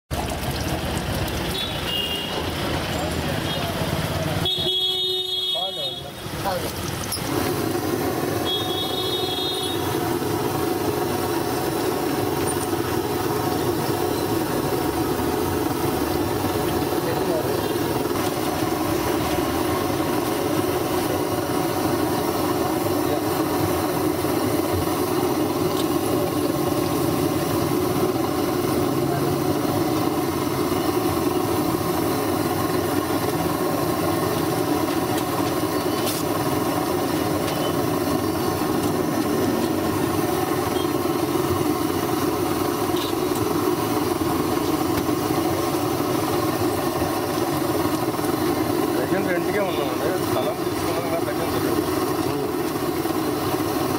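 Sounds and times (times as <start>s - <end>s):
deep-frying sizzle: 0.1s - 53.9s
gas burner roar: 0.1s - 53.9s.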